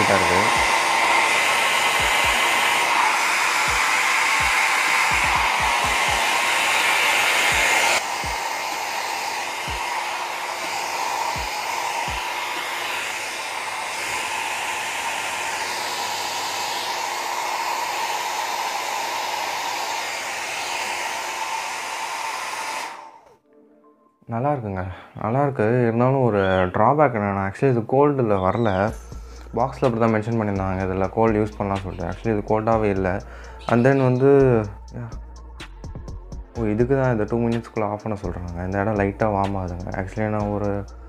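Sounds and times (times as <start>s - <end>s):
hair dryer blowing: 0.0s - 23.4s, 28.4s - 35.6s, 36.5s - 41.0s.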